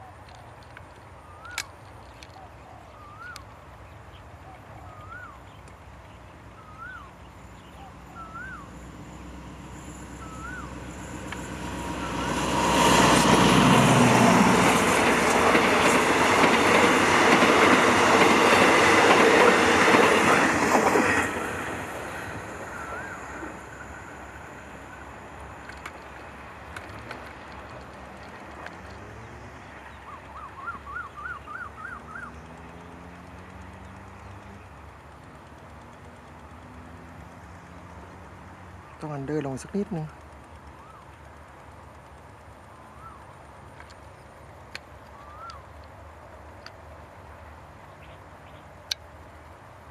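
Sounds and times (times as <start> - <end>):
diesel train passing: 0.0 - 49.9.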